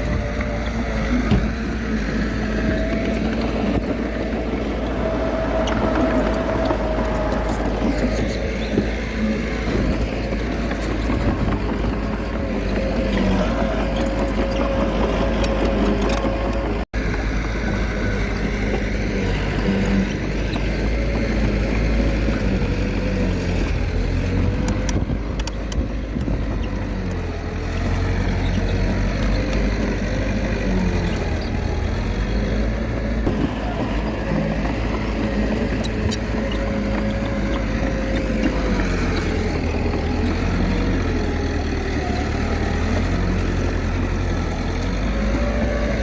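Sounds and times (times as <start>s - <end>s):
bulldozer diesel engine under load: 0.0s - 46.0s.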